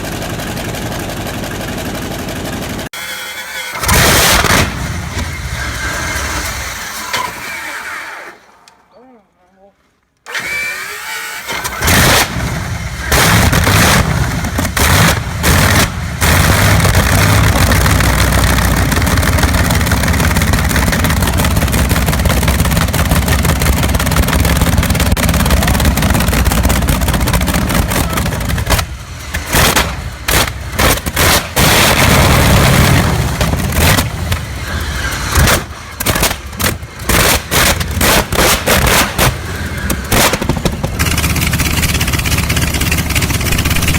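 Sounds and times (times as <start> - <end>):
piston aircraft engine starting: 0.0 - 8.5, 10.3 - 43.9.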